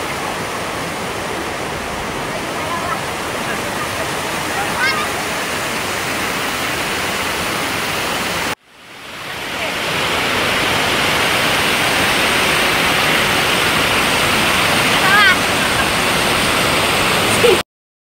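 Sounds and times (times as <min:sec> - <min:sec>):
river rapids rushing: 0:00.0 - 0:17.6.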